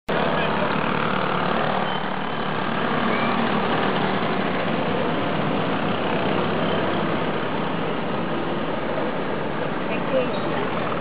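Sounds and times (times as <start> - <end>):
moped engines droning: 0.1 - 11.0.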